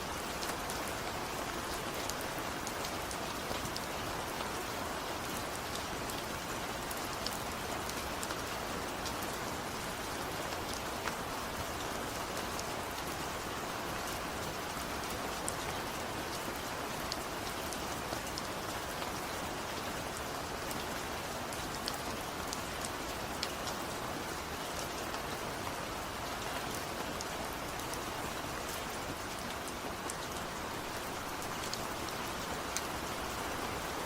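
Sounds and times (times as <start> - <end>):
gentle rain hiss: 0.0 - 34.0.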